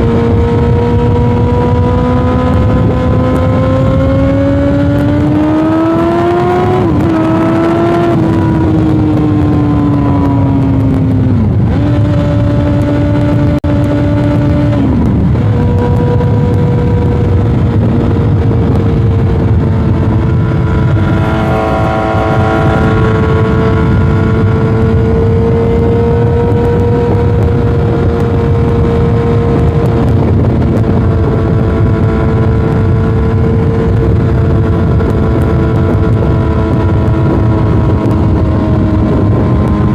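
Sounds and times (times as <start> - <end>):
motorcycle engine revving: 0.0 - 39.9
wind on microphone: 0.0 - 39.9.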